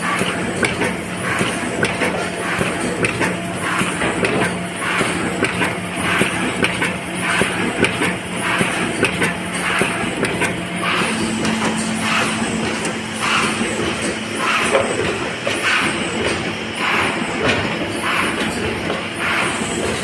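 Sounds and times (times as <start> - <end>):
machine swish and clack: 0.0 - 20.0
motor hum: 0.0 - 20.0.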